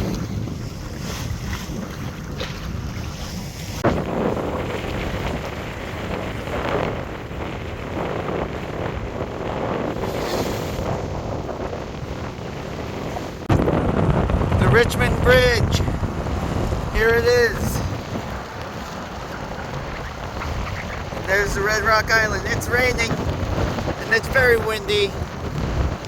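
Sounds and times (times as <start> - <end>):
water splashing past hull: 0.0 - 26.0
wind buffeting microphone: 0.0 - 26.0.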